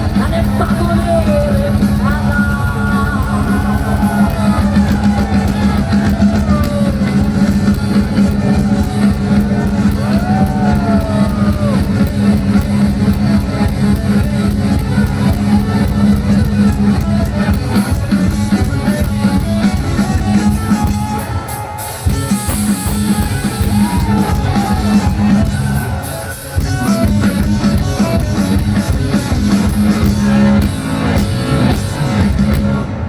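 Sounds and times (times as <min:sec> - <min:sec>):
instrumental band music: 0:00.0 - 0:33.0.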